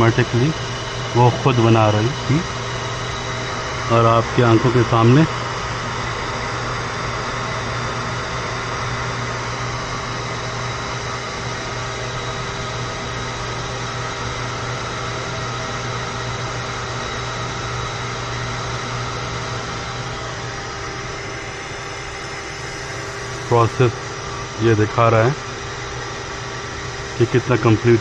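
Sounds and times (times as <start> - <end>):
key-cutting machine hum: 0.0 - 28.0.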